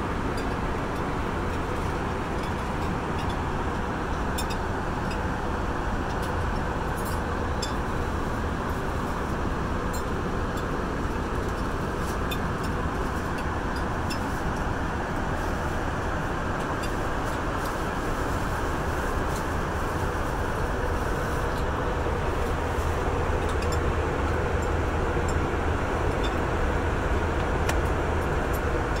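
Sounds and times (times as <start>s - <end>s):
jet engines droning: 0.0s - 29.0s.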